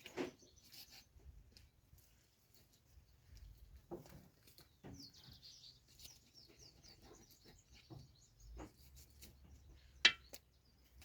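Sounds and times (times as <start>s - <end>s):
small bird chirping: 0.0s - 1.8s, 2.6s - 11.0s.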